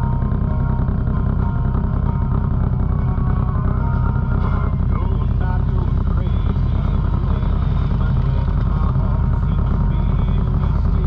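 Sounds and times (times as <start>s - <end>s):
atv engine droning: 0.0s - 11.0s.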